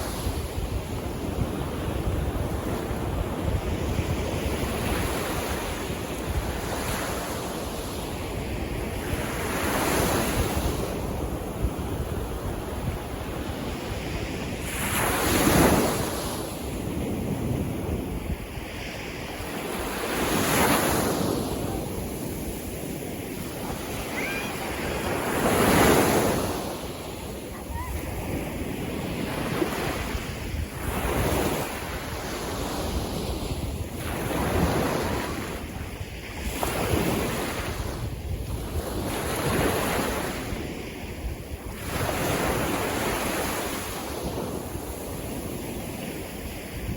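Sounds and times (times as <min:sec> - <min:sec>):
sea waves washing ashore: 0:00.0 - 0:46.9
wind rumble on microphone: 0:00.0 - 0:46.9.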